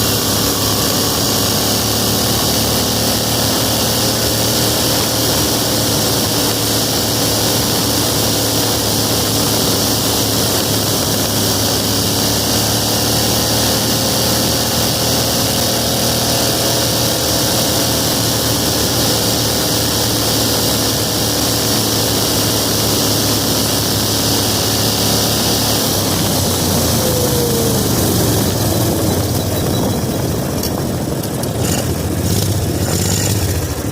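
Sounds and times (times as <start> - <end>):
minibike engine running: 0.0 - 33.9.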